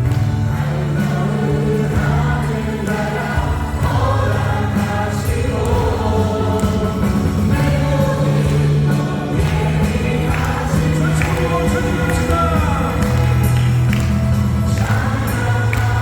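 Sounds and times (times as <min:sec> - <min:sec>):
worship band playing: 0:00.0 - 0:16.0
group of vocalists singing: 0:00.1 - 0:16.0.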